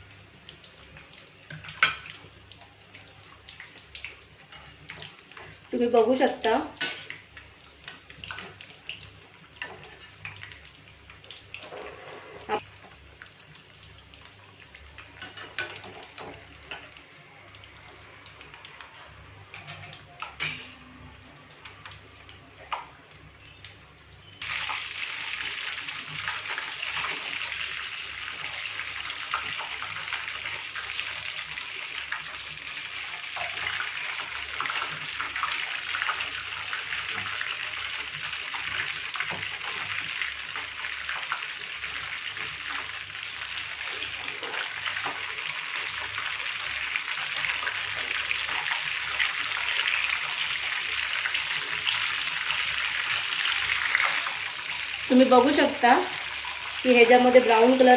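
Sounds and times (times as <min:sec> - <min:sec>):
food sizzling in oil: 0:00.0 - 0:57.9.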